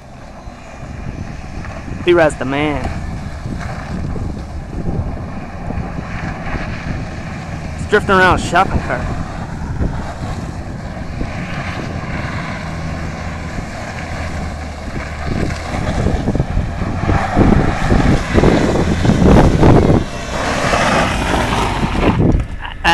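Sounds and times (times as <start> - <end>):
car engine revving hard: 0.0 - 22.3.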